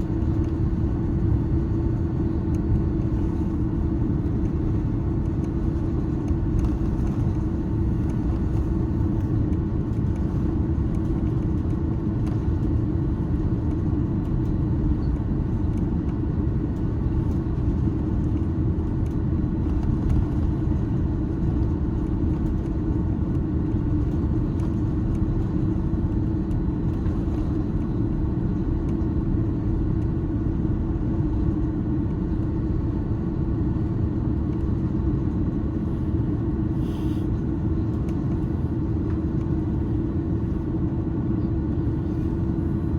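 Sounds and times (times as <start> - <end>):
constant low hum: 0.0 - 42.9
engine and airflow rumble: 0.0 - 42.9.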